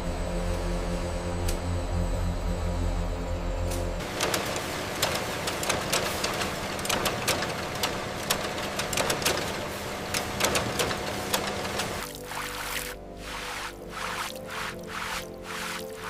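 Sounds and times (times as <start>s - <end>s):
workshop machinery humming: 0.0s - 16.0s.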